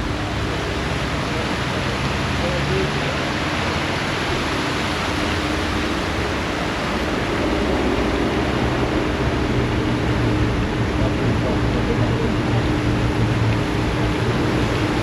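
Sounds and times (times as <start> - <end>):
low droning hum: 0.0 - 15.0
steady outdoor rushing noise: 0.0 - 15.0.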